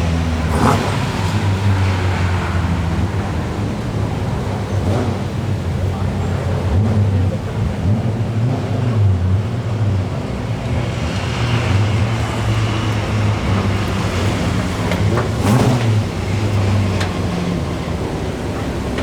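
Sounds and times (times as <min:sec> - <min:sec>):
car engines rumbling at low revs: 0:00.0 - 0:19.0.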